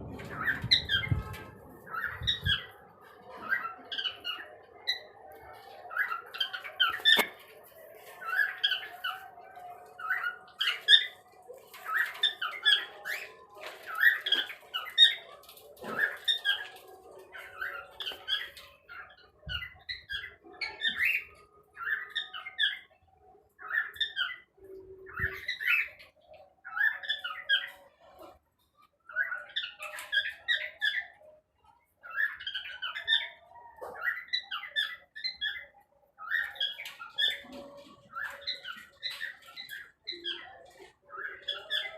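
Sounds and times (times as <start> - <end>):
birds chirping and squawking: 0.0 - 41.9.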